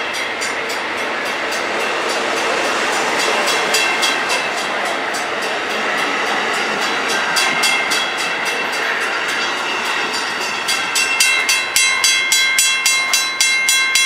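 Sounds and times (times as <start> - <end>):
clanging bell: 0.0 - 14.0
train wheels on rails: 0.0 - 14.0.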